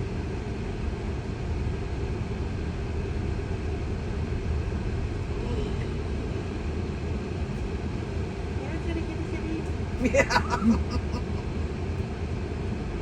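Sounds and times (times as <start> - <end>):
road and tyre noise in car: 0.0 - 13.0.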